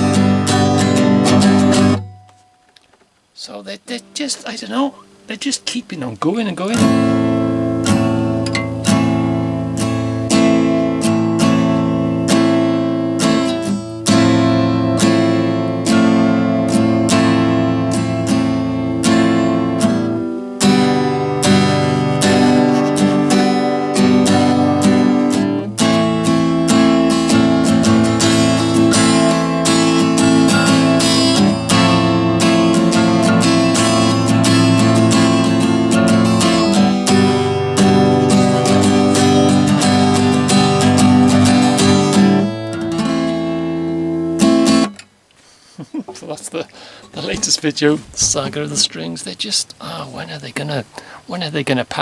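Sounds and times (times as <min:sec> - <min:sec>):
acoustic guitar strumming: 0:00.0 - 0:51.8.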